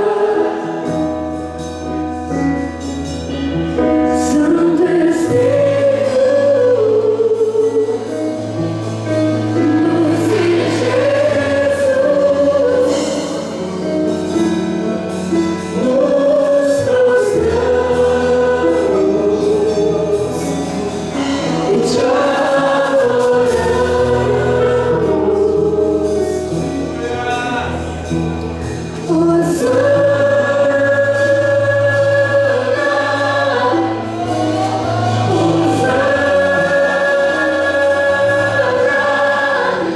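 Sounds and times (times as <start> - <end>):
band accompaniment with bass: 0.0 - 39.9
choir singing gospel: 0.0 - 39.9.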